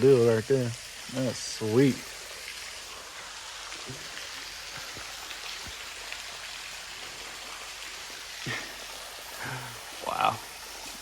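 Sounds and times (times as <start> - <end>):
water hissing: 0.0 - 11.0.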